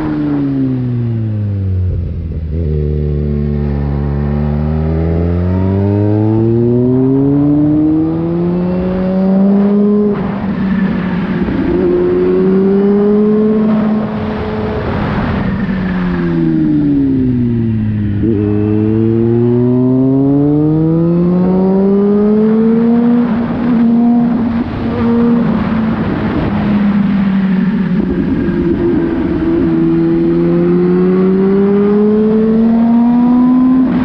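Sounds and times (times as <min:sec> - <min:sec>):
car engine: 0:00.0 - 0:34.0.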